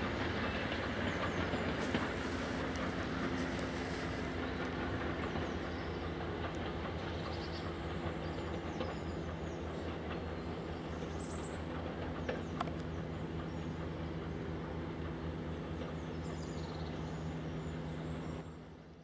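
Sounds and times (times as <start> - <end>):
rail clicks: 0.0 - 16.3
train rumbling on rails: 0.0 - 19.0.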